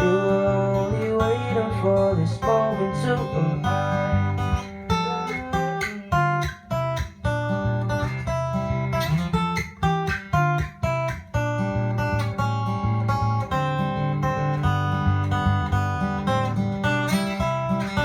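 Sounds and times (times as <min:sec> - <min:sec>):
fingerpicked acoustic guitar: 0:00.0 - 0:18.0.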